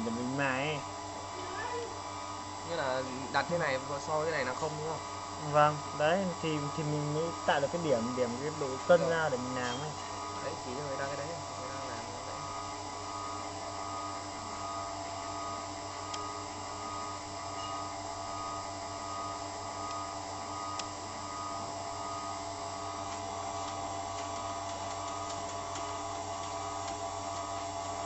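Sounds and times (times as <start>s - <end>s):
grinding machine motor humming: 0.0s - 28.0s.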